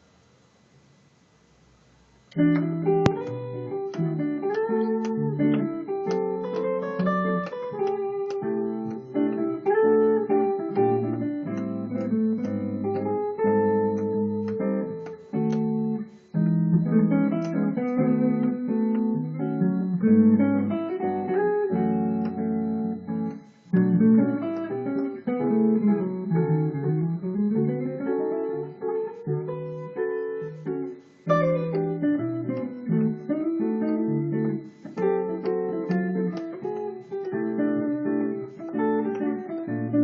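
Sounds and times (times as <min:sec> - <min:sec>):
jazz electric guitar: 0:02.3 - 0:40.0.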